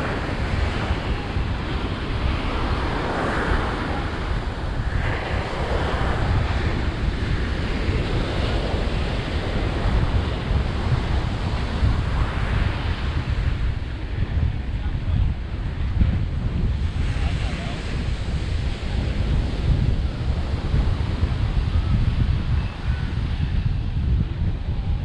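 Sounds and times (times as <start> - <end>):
ocean surf breaking: 0.0 - 24.0
wind buffeting microphone: 0.0 - 25.0.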